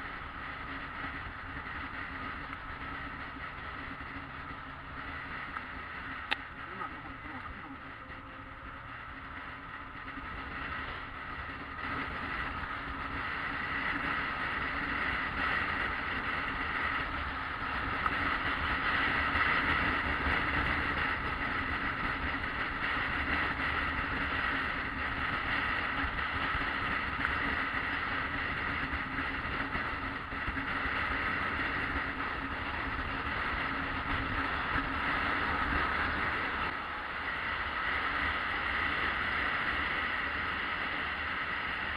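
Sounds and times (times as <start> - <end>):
motorcycle engine drone: 0.0 - 41.9
road and wind noise: 0.0 - 41.9.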